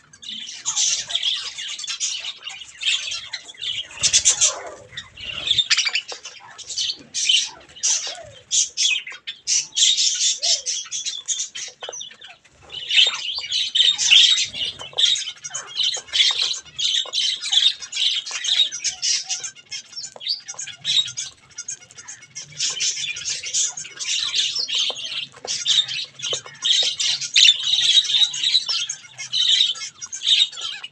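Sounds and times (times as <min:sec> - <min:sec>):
budgerigars chattering and chirping: 0:00.0 - 0:30.9.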